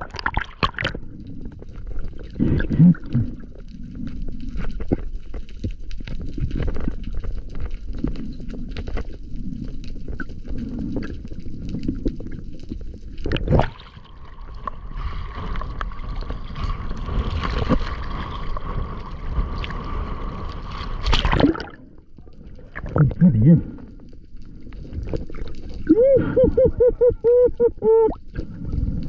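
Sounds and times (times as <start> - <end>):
water sloshing and gurgling: 0.0 - 29.0.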